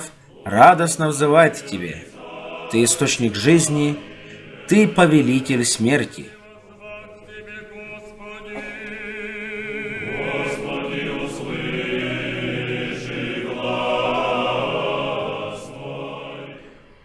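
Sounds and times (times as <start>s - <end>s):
choir singing a chant: 0.0s - 17.0s.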